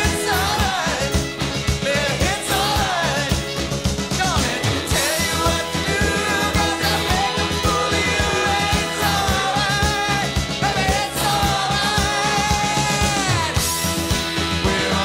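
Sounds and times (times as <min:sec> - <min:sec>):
person singing: 0:00.0 - 0:15.0
rock drum beat: 0:00.0 - 0:15.0.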